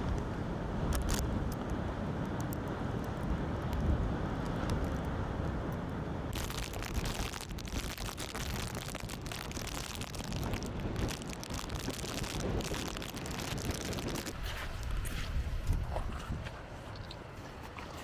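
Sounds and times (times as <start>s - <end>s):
rain and wind on microphone: 0.0s - 18.0s.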